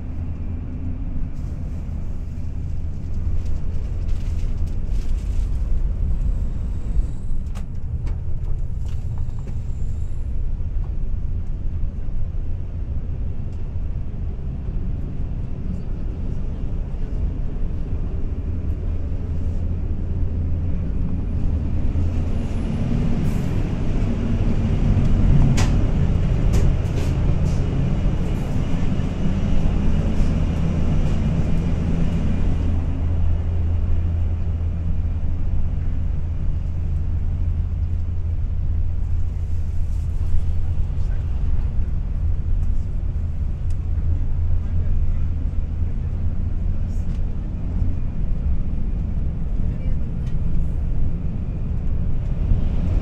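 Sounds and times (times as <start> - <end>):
train interior rumble: 0.0 - 53.0.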